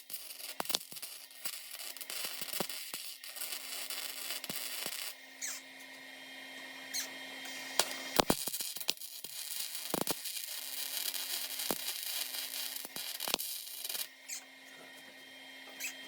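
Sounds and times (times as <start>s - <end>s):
welding crackling hiss: 0.0s - 5.7s, 6.9s - 14.5s.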